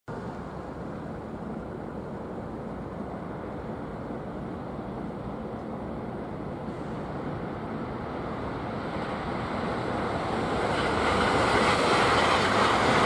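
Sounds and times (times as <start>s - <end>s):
distant trains rumbling: 0.1s - 13.0s.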